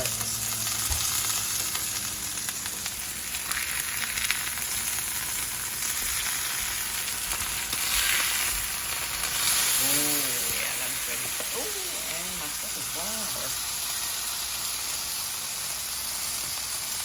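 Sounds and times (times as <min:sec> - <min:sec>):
steak sizzling on griddle: 0:00.0 - 0:17.0.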